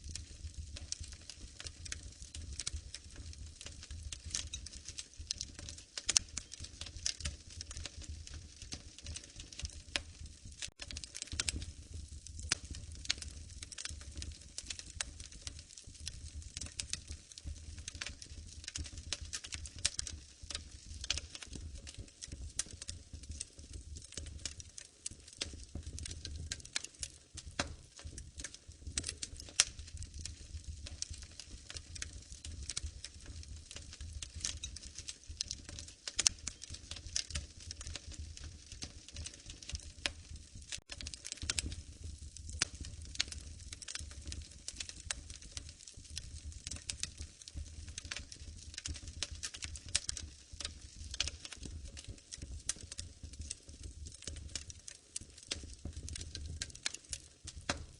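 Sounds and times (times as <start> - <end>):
fire popping and snapping: 0.0 - 57.9
wood fire crackling: 0.0 - 57.9.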